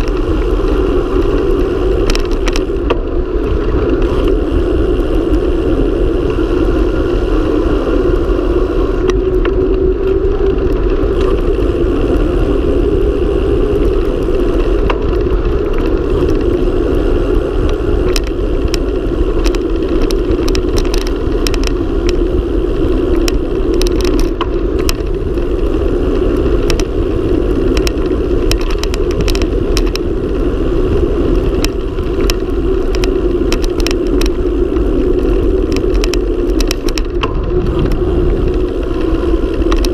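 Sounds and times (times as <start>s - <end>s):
bike rattles and clicks: 0.0s - 39.9s
tyre noise on road: 0.0s - 39.9s
wind rushing on microphone: 0.0s - 39.9s.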